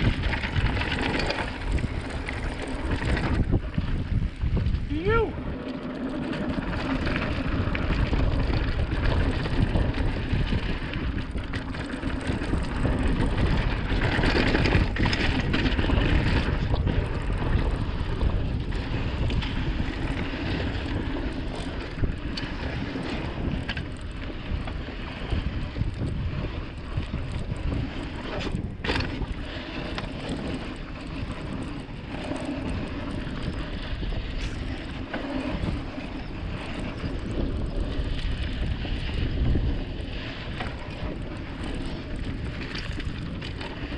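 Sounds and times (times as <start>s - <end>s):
tyres rolling over dirt: 0.0s - 43.9s
wind rushing over microphone: 0.0s - 43.9s.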